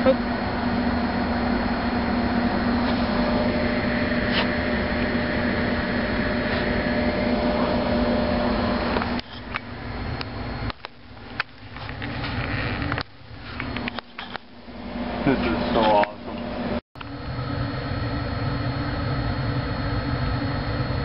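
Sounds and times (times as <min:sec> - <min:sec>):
machine hum with low drone: 0:00.0 - 0:21.0.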